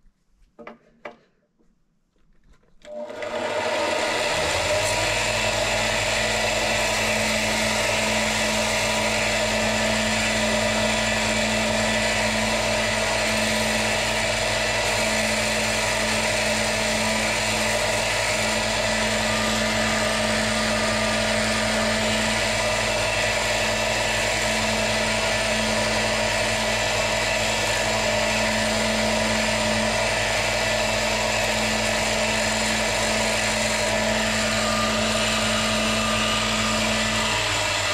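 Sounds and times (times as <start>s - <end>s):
belt grinder motor hum: 2.9s - 37.9s
drill bit grinding on belt: 2.9s - 37.9s.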